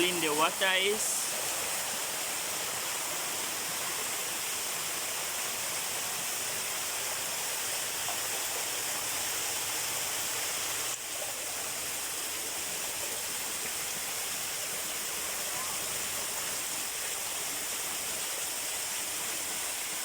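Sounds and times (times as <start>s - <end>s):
spring water rushing: 0.0s - 20.0s.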